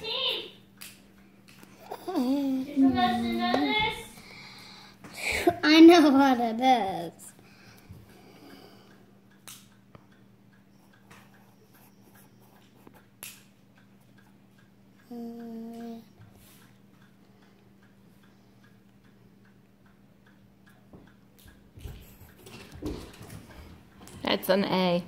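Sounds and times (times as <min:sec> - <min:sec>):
faint repeating ticking: 0:00.0 - 0:22.8
steady low hum: 0:00.0 - 0:25.0.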